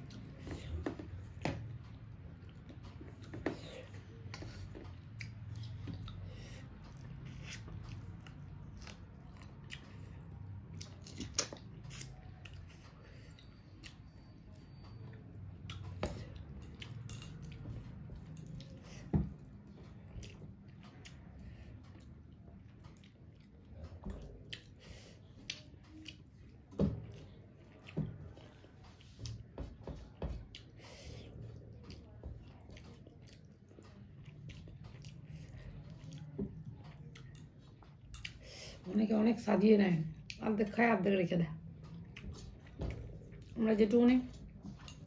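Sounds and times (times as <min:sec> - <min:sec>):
person chewing food: 0:00.0 - 0:38.8, 0:40.1 - 0:40.4, 0:41.6 - 0:43.6.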